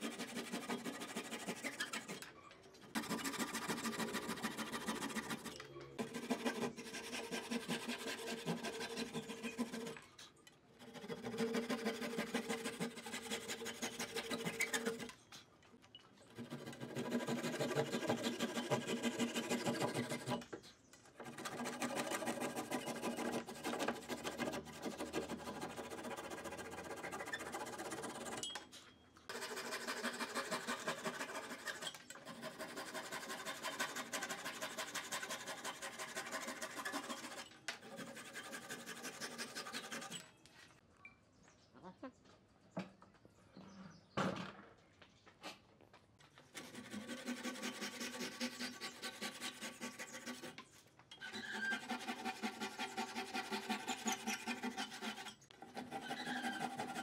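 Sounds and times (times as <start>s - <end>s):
hand saw rasping through wood: 0.0s - 2.3s, 2.9s - 10.1s, 10.8s - 15.1s, 16.3s - 20.5s, 21.2s - 28.5s, 29.3s - 40.2s, 46.5s - 57.0s.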